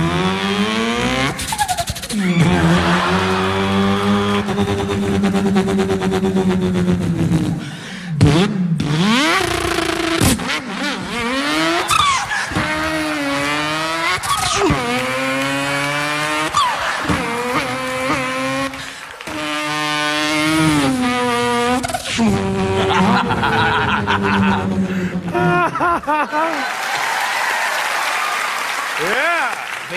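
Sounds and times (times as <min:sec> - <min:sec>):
man imitating car engine: 0:00.0 - 0:26.6.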